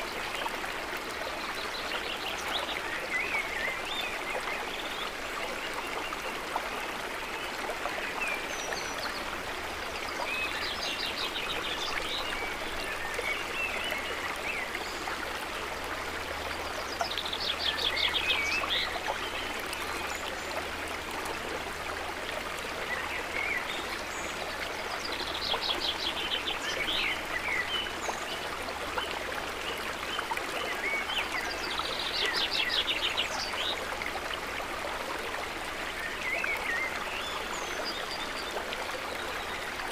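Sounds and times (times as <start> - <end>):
trickling water gurgling: 0.0 - 39.9.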